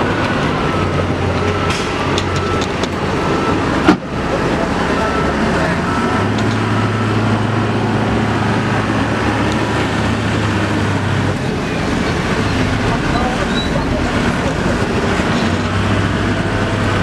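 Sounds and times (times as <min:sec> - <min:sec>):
heavy diesel engine under load: 0:00.0 - 0:17.0.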